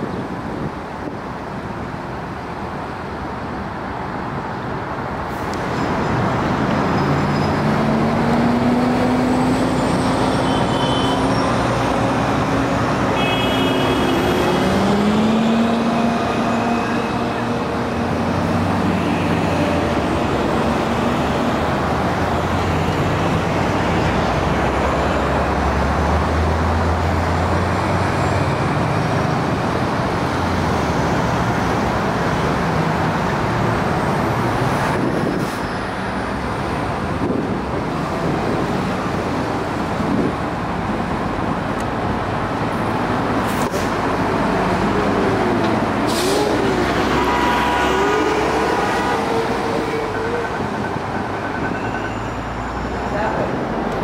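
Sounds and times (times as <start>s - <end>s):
bus engine humming: 0.0s - 54.0s
road traffic: 0.0s - 54.0s.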